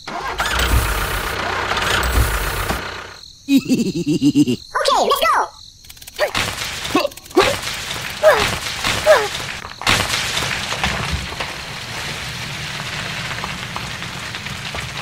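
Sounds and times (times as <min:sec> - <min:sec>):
toy tractor pushing rocks on sand: 0:00.0 - 0:03.2, 0:05.9 - 0:15.0.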